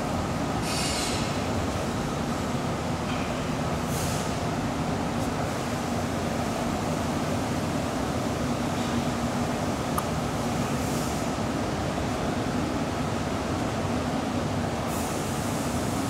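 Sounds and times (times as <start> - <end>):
cooling fan noise: 0.0 - 16.0.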